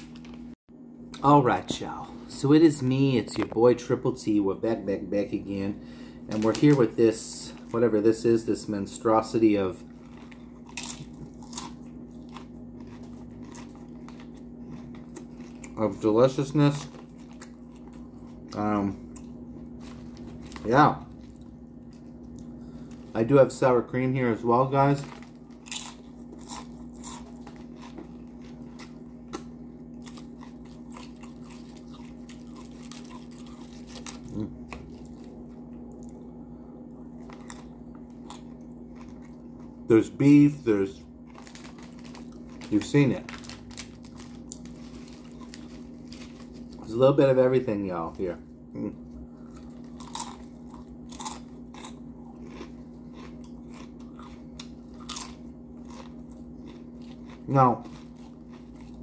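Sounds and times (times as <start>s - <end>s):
chips crunching while chewed: 6.3s - 36.3s, 37.1s - 59.0s.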